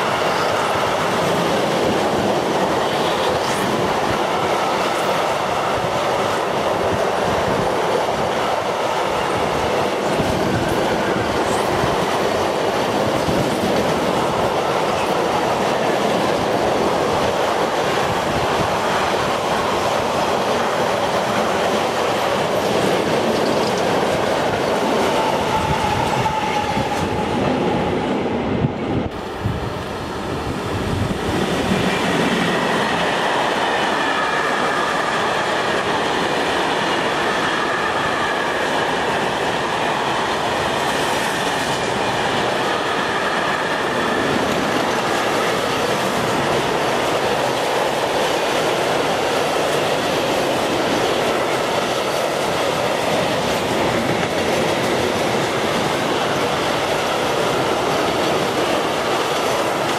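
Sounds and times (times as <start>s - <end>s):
freight train passing close by: 0.0s - 59.9s
freight train wheels on rails: 0.0s - 59.9s.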